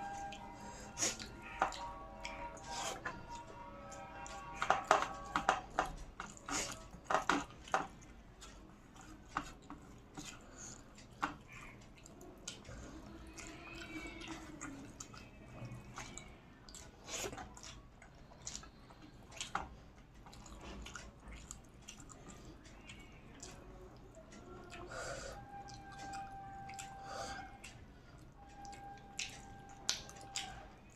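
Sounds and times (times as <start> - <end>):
person chewing: 0.0 - 30.9.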